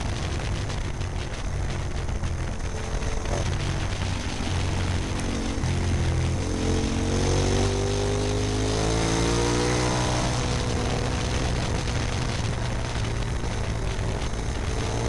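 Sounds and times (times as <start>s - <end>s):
motorcycle engine running: 0.0s - 15.0s
wind rush: 0.0s - 15.0s.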